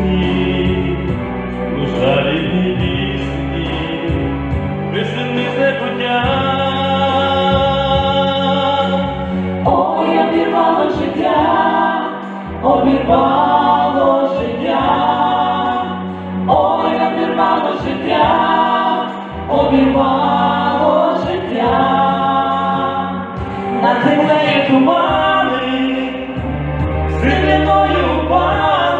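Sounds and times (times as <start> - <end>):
choir singing slow song: 0.0 - 4.7, 6.2 - 28.9
low held accompaniment notes: 0.0 - 28.9.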